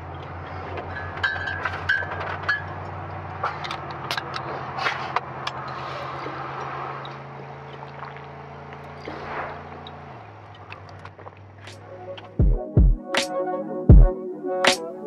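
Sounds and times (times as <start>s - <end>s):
car engine hum from inside cabin: 0.0s - 12.2s.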